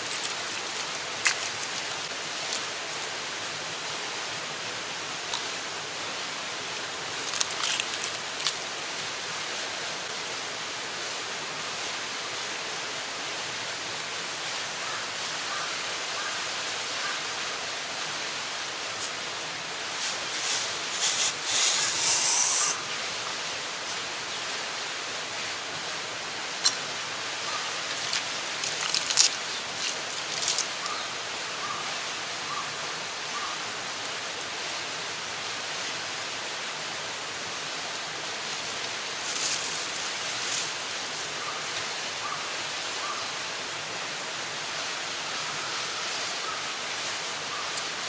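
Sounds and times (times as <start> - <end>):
outdoor background hiss: 0.0 - 48.0.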